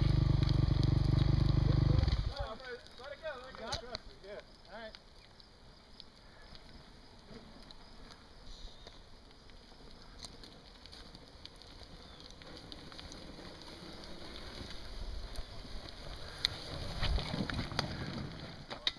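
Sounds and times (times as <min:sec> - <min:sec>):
tyres crunching dirt and stones: 0:00.0 - 0:18.9.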